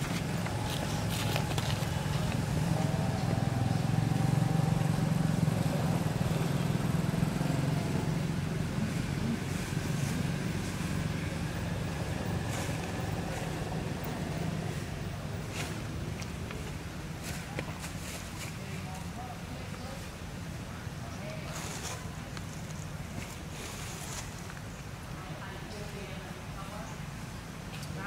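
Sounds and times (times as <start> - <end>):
vehicle engine rumbling: 0.0 - 25.1.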